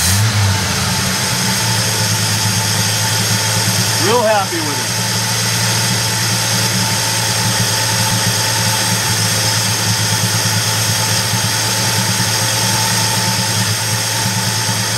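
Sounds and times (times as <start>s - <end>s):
truck engine idling: 0.0s - 12.9s.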